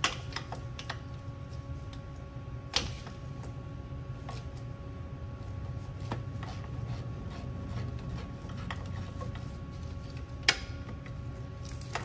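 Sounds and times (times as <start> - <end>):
steady shop hum: 0.0 - 12.0.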